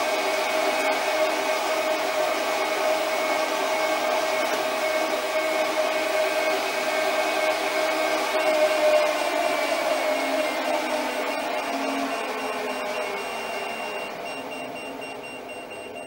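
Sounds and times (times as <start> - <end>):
lathe motor and gear whine: 0.0 - 16.0.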